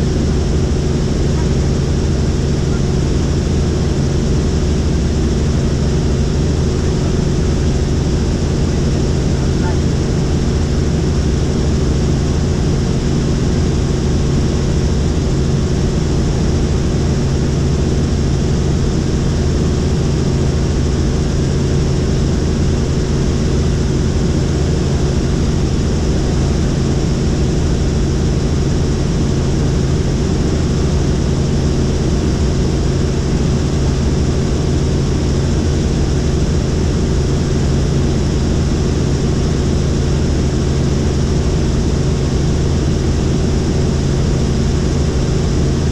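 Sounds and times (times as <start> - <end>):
helicopter droning: 0.0 - 45.9.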